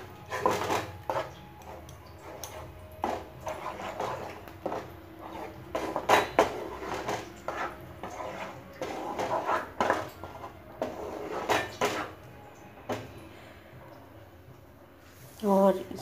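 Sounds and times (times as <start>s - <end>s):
spatula scraping and knocking pan: 0.0s - 13.2s.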